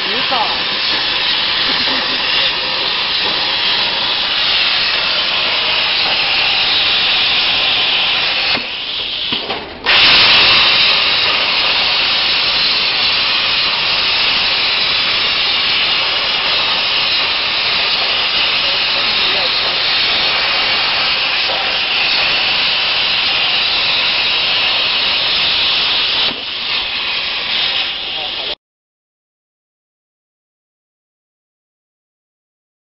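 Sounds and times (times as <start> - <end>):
plasma cutter hissing: 0.0 - 28.6.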